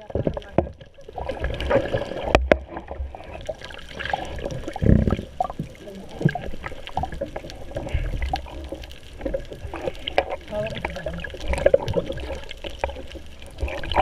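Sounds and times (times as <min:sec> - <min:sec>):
water sloshing and gurgling: 0:00.0 - 0:14.0.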